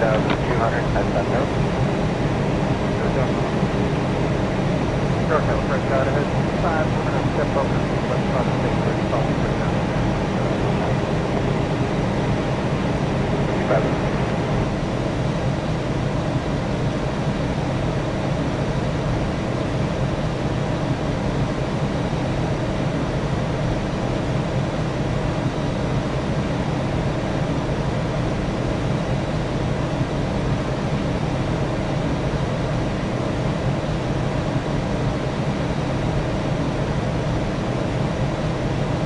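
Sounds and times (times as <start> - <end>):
aircraft droning in flight: 0.0 - 39.0.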